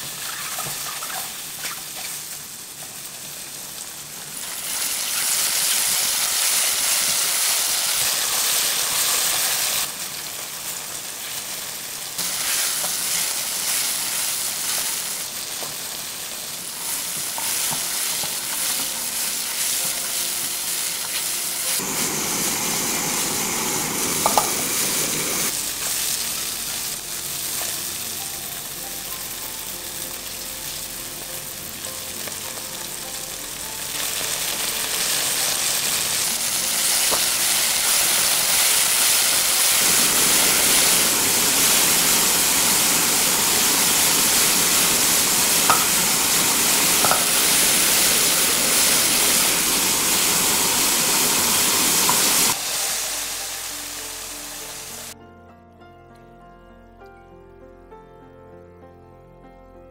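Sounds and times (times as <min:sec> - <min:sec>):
vegetables sizzling in a wok: 0:00.0 - 0:55.2.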